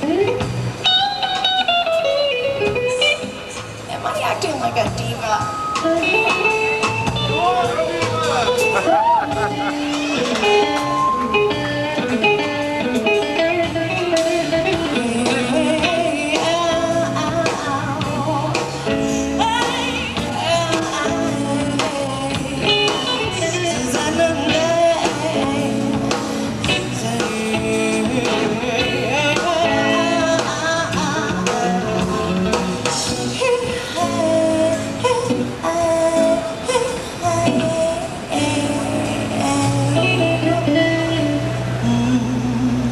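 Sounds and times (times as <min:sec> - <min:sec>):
blues-rock band playing: 0:00.0 - 0:42.9.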